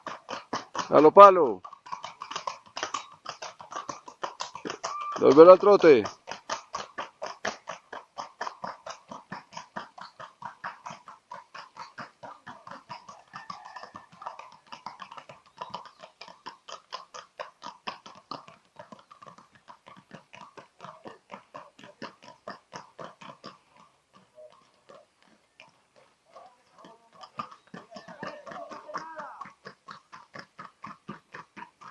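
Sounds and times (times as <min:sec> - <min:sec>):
horse hooves trotting: 0:00.0 - 0:31.9.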